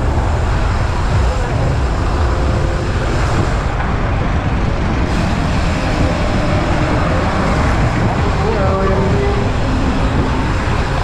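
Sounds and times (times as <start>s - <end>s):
passing vehicles: 0.0s - 11.0s
road noise: 0.0s - 11.0s
wind on microphone: 0.0s - 11.0s.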